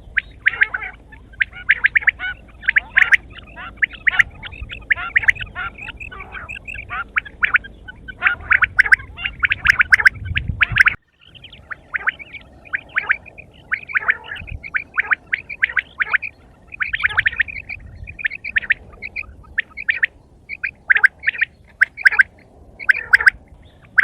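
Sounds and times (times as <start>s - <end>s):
quail chirping calls: 0.0s - 24.0s.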